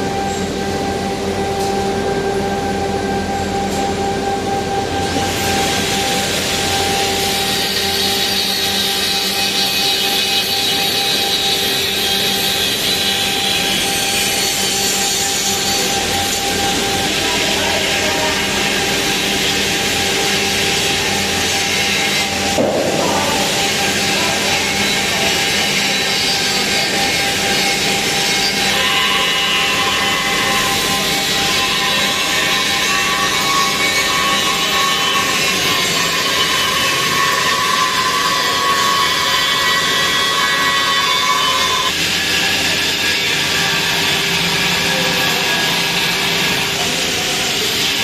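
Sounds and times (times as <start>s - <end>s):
power tool cutting steel: 3.8s - 48.0s.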